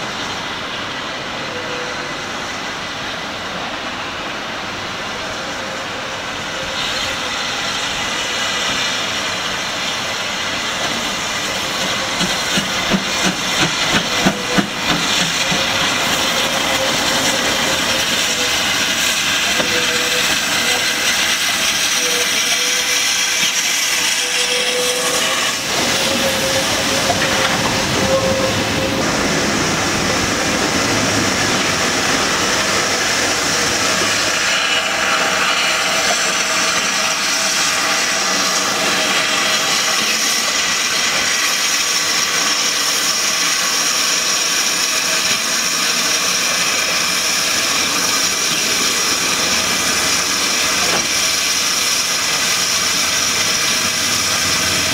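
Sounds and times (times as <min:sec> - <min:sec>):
hiss of escaping steam: 0:00.0 - 0:54.9.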